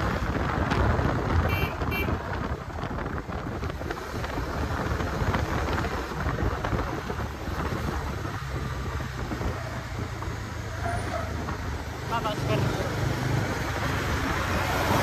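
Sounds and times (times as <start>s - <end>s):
motorcycle engine humming: 0.0s - 15.0s
wind buffeting microphone: 0.0s - 15.0s.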